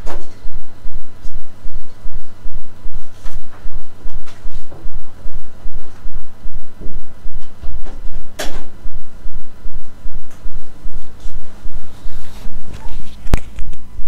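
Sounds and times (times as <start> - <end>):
rhythmic low throbbing: 0.0 - 13.0
loud steady low hum: 0.0 - 14.0.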